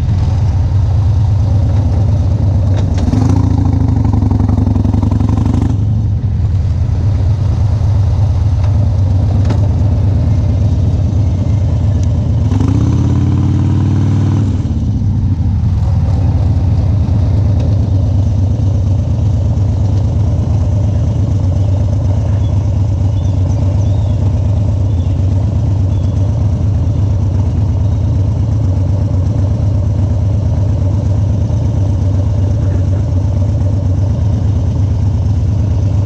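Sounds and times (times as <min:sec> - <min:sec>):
motorcycle engine idling: 0:00.0 - 0:36.0.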